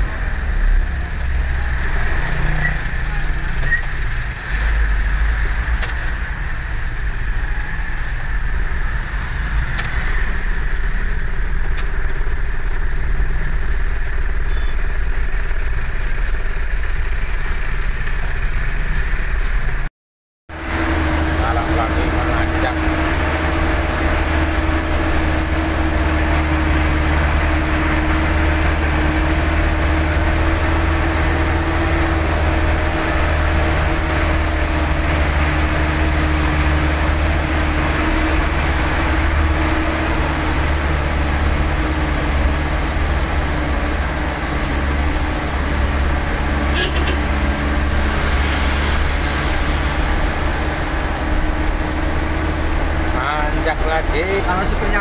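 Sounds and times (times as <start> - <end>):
diesel truck engine drone: 0.0 - 19.9, 20.5 - 55.0.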